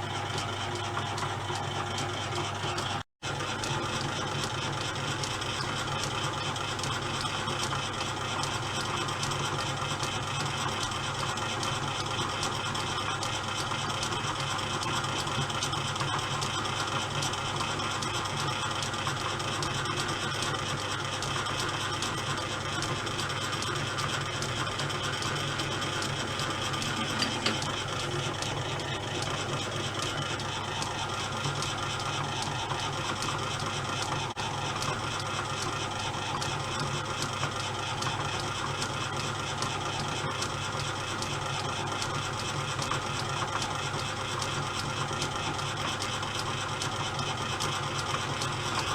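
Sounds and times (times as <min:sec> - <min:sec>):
lathe gearing whirring and clicking: 0:00.0 - 0:48.9.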